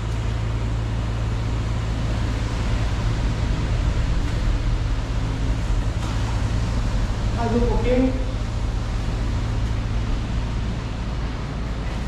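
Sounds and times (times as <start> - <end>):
low hum: 0.0 - 12.0
steady rushing noise: 0.0 - 12.0.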